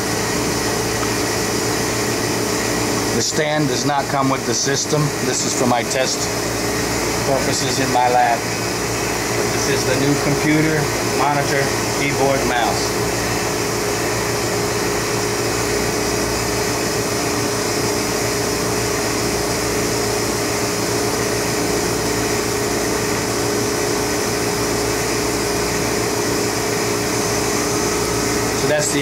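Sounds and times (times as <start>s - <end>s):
machine pumps and fans whirring: 0.0s - 29.0s.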